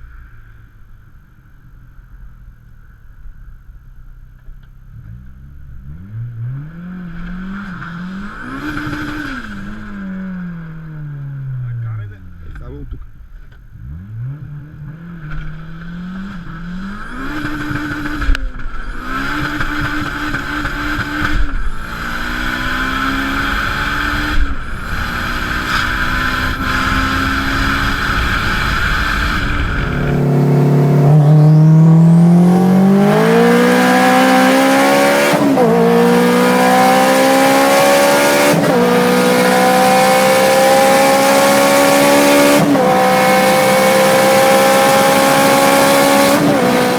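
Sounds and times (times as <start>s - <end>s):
car engine accelerating hard: 4.4s - 46.9s.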